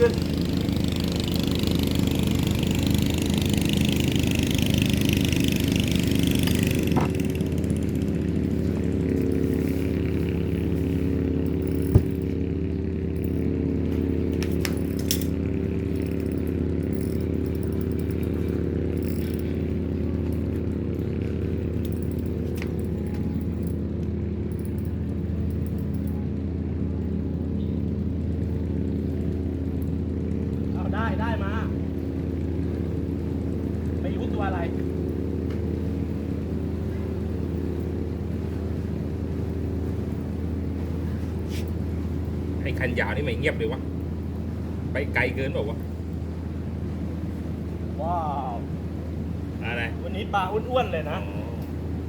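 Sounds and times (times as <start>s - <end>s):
motor engine humming: 0.0s - 52.0s.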